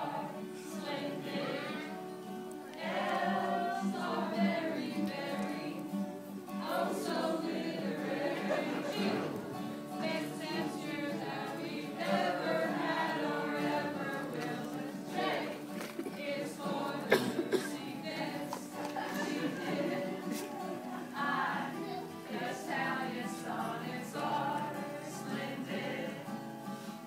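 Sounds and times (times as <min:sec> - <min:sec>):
acoustic guitars: 0:00.0 - 0:27.0
group of voices singing: 0:00.0 - 0:27.0.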